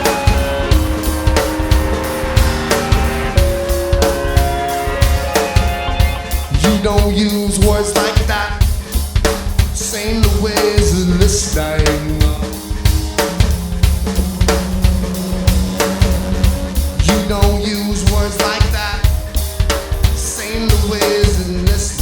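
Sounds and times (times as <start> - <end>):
drum kit groove: 0.0 - 22.0
live band music: 0.0 - 22.0.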